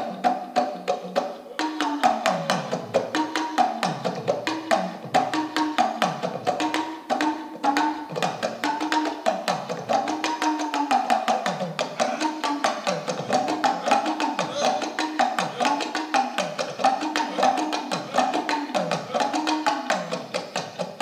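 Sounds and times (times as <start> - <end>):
talking drum strokes: 0.0 - 21.0.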